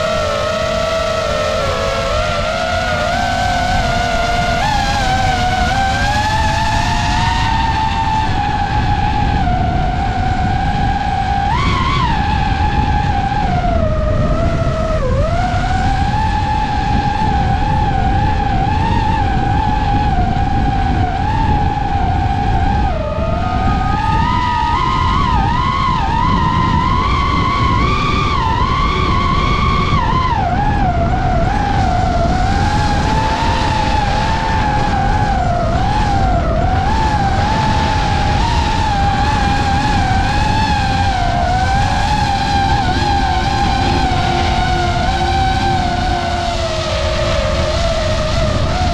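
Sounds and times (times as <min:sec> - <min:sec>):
drone propellers whining: 0:00.0 - 0:48.9
propeller wash and wind: 0:00.0 - 0:48.9.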